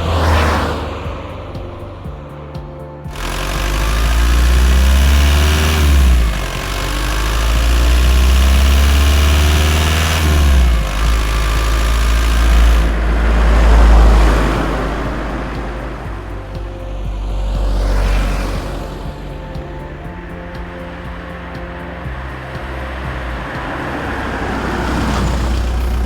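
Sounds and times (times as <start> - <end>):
diesel engine accelerating: 0.0 - 26.0
road noise: 0.0 - 26.0.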